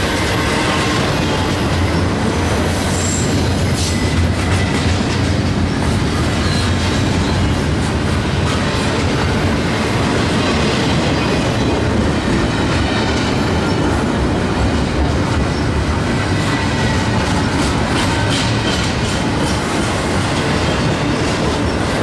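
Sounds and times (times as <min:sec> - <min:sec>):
clickety-clack over rail joints: 0:00.0 - 0:22.0
steel wheels rumbling on rail: 0:00.0 - 0:22.0.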